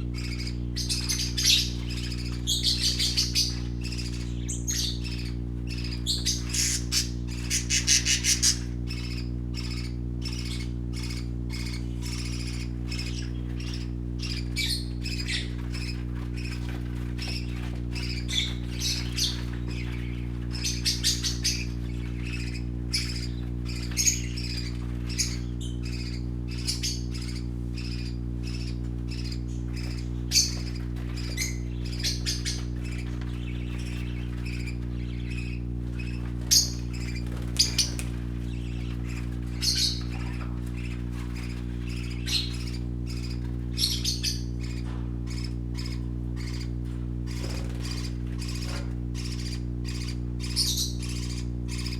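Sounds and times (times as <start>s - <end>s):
baby parakeets chirping and squawking: 0.0s - 51.9s
steady low hum: 0.0s - 51.9s.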